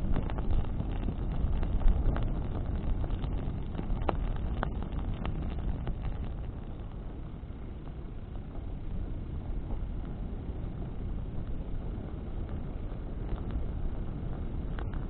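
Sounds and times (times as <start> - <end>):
bonfire flame rumbling: 0.0 - 15.0
burning branches crackling: 0.0 - 15.0
wind: 0.0 - 15.0.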